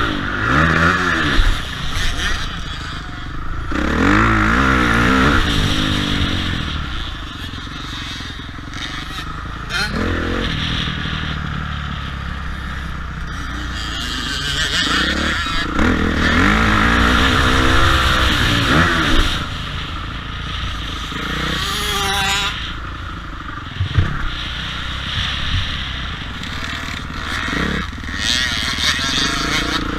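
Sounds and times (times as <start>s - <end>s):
motocross bike engines revving: 0.0s - 29.9s.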